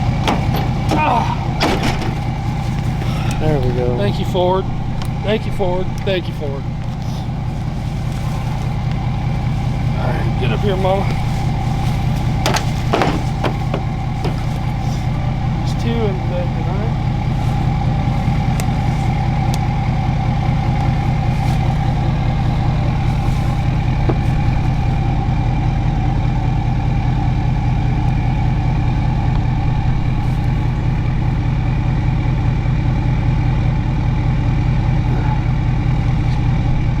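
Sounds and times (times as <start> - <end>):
truck engine running steadily: 0.0 - 37.0.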